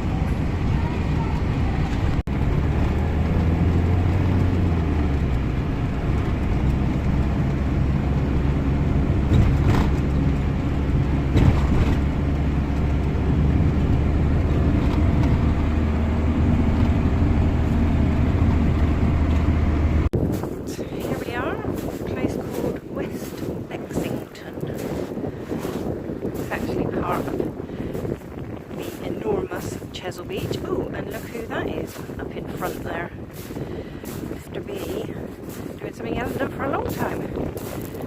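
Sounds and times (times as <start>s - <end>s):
engine and road drone: 0.0s - 38.0s.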